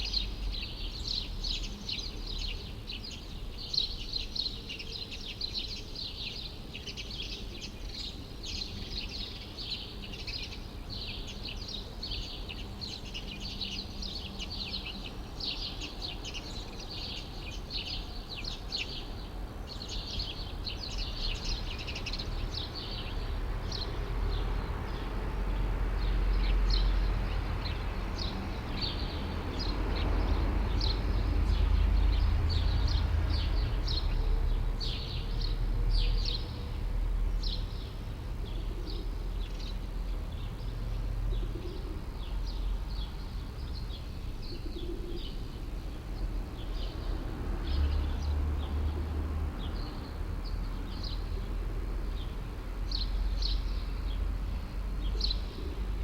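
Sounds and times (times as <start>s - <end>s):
low traffic rumble: 0.0s - 56.0s
small birds chirping: 0.0s - 56.0s.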